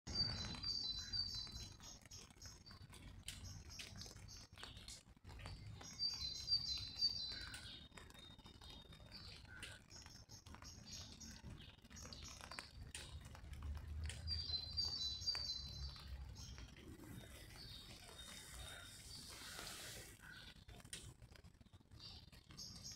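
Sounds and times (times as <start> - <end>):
raindrops tapping on umbrella: 0.1 - 22.9
songbird singing: 0.1 - 22.9.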